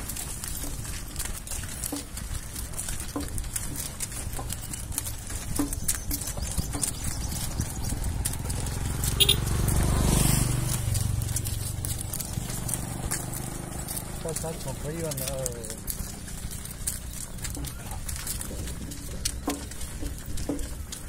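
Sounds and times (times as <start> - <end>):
cart knocking and rumbling: 0.0 - 21.0
hooves clopping: 0.0 - 21.0
motor vehicle passing: 0.0 - 21.0.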